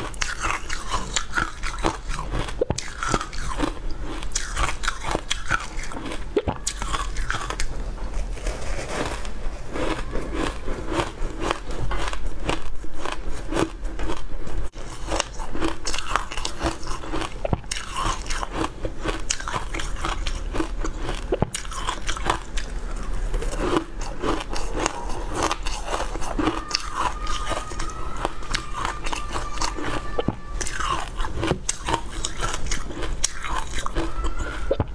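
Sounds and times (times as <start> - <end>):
crunching and chewing: 0.0 - 34.9.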